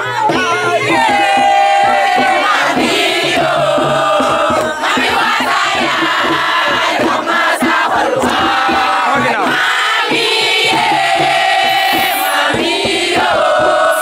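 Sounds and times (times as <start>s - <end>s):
crowd chanting and shouting: 0.0s - 14.0s.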